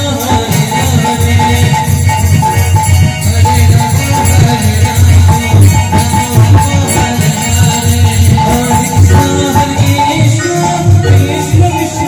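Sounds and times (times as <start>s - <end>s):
drum beating quick rhythm: 0.0s - 12.0s
jingling hand cymbals: 0.0s - 12.0s.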